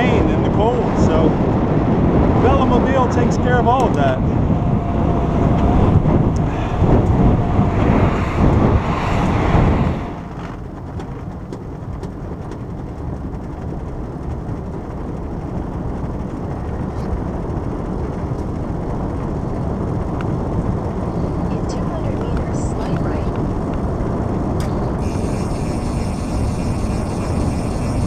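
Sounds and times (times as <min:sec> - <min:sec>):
tyres rolling rumble: 0:00.0 - 0:28.0
wind and road noise: 0:00.0 - 0:28.0.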